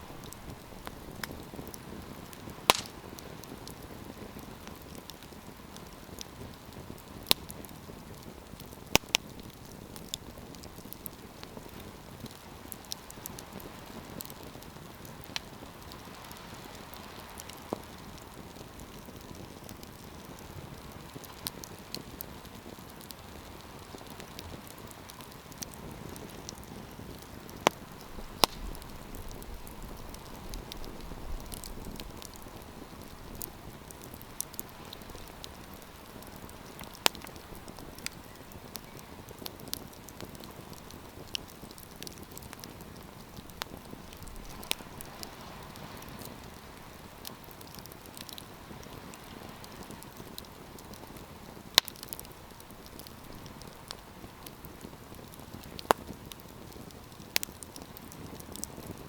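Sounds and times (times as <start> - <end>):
campfire hissing and crackling: 0.0 - 59.0.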